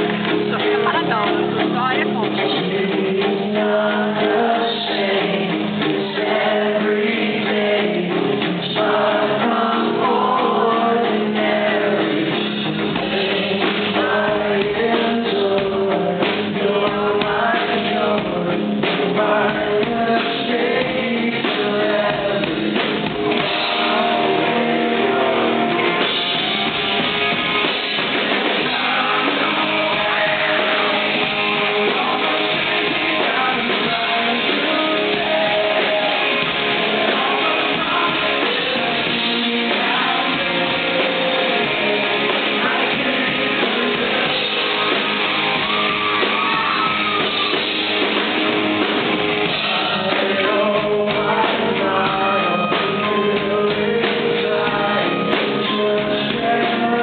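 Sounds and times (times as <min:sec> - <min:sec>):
man singing rock vocal: 0:00.0 - 0:47.8, 0:49.3 - 0:57.0
drum kit: 0:00.0 - 0:57.0
electric guitars: 0:00.0 - 0:57.0.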